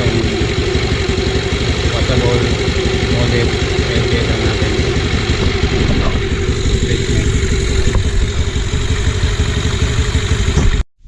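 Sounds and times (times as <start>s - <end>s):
scooter engine idling: 0.0s - 10.8s.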